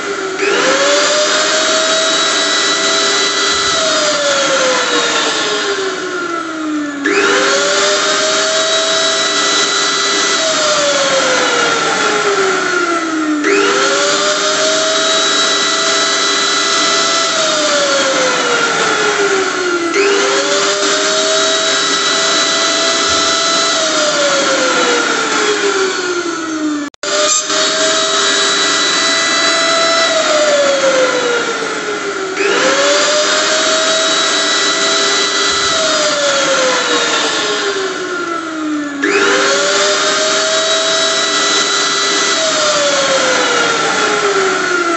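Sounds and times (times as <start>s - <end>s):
electric blender motor whining: 0.0s - 44.9s.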